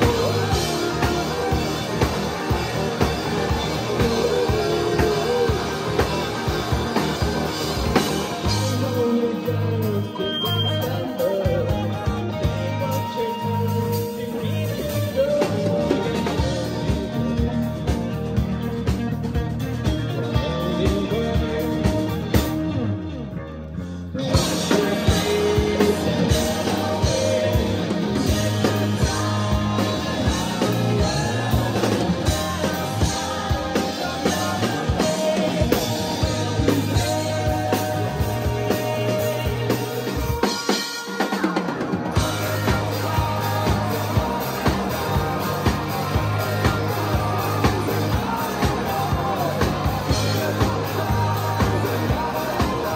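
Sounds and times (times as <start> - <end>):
man singing lead vocals: 0.0 - 52.9
rock band playing live: 0.0 - 52.9.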